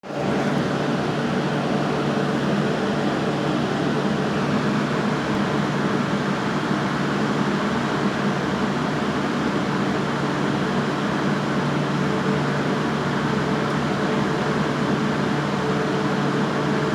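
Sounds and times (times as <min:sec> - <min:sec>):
steady hum: 0:00.0 - 0:16.9.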